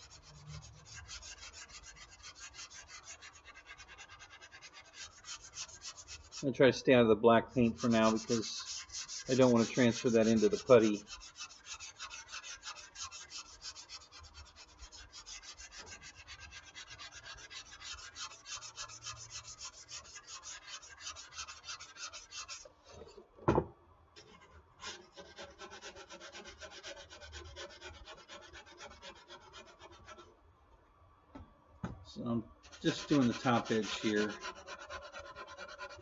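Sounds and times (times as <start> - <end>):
sandpaper rubbing strokes: 0.0 - 6.4, 7.5 - 22.7, 24.8 - 30.2, 32.6 - 36.0.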